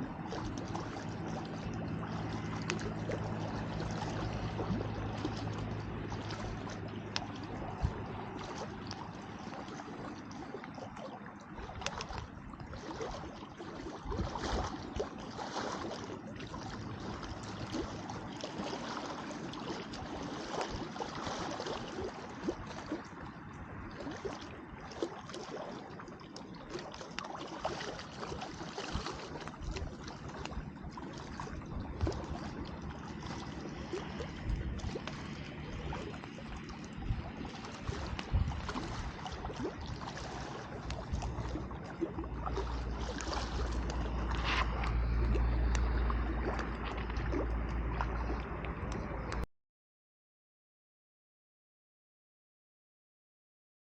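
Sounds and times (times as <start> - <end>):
small waves lapping at shore: 0.0 - 49.4.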